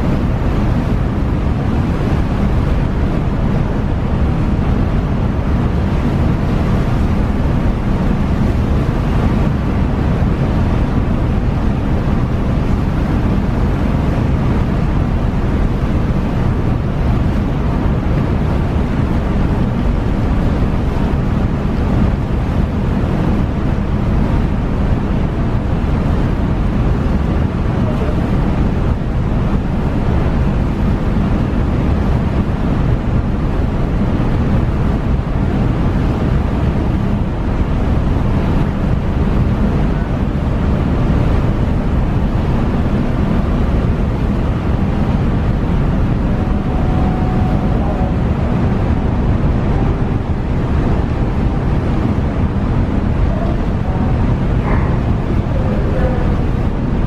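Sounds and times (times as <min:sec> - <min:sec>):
low rumble of ship: 0:00.0 - 0:57.0
wind noise on microphone: 0:00.0 - 0:57.0.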